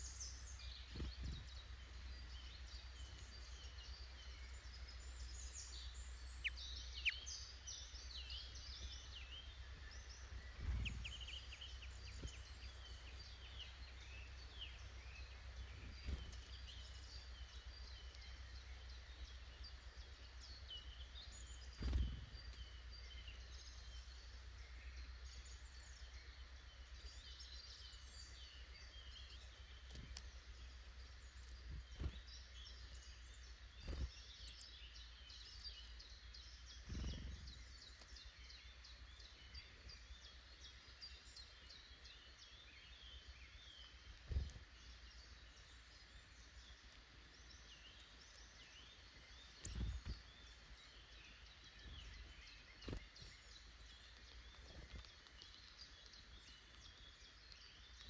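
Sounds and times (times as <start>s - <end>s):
birds chirping and calling: 0.0s - 23.9s, 25.4s - 40.1s, 43.1s - 58.0s.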